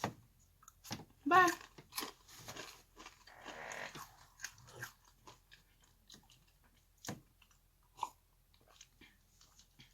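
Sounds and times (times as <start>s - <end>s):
crunching and chewing food: 0.0s - 9.9s.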